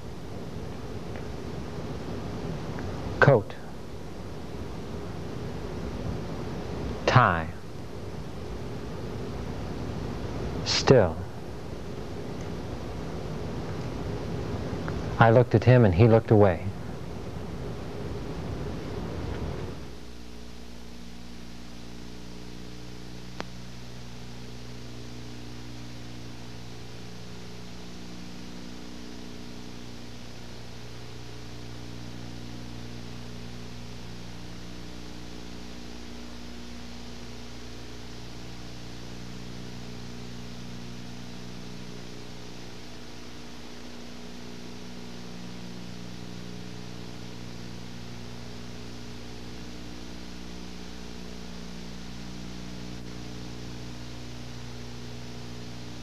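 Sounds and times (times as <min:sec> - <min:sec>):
low electrical hum: 0:00.0 - 0:56.0
recording hiss: 0:00.0 - 0:56.0.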